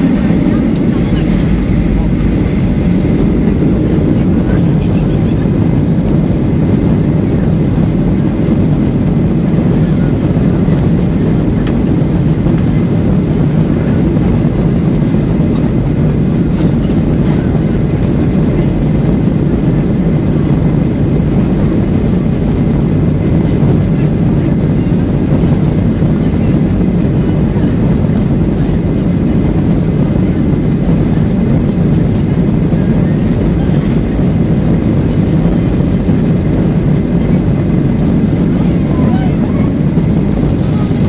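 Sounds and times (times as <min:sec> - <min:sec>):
airplane cabin rumble while taxiing: 0:00.0 - 0:41.0.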